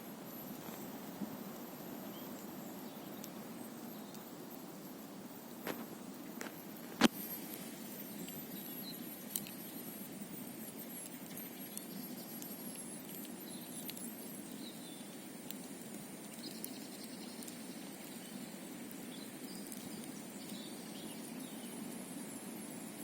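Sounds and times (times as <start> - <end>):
faint high chirps: 0.0 - 23.0
campfire crackling and popping: 0.3 - 23.0.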